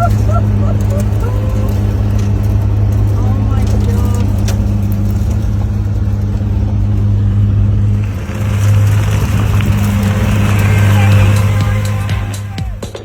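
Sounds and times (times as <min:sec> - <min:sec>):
car engine low hum: 0:00.0 - 0:13.0.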